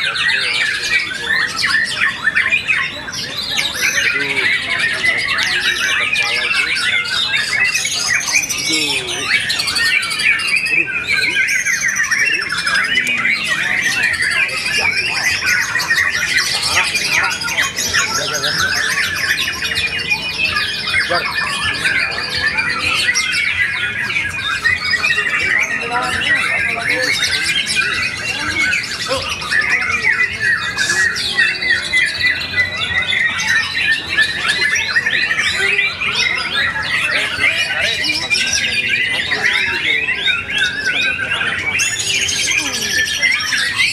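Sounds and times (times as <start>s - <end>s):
songbirds singing in chorus: 0.0s - 43.9s.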